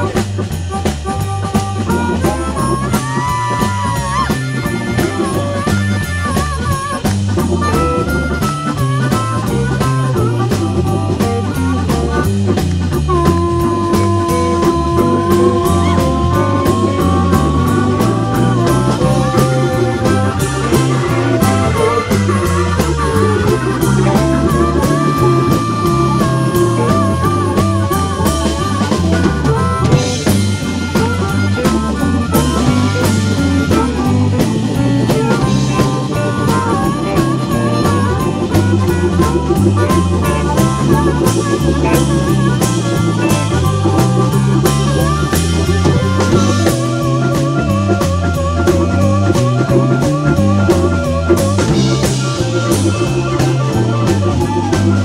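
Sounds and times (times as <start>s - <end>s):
drum kit: 0.0s - 55.0s
electric guitar: 0.0s - 55.0s
harmonicas playing bent notes: 0.0s - 55.0s
stepping low bass line: 0.0s - 55.0s.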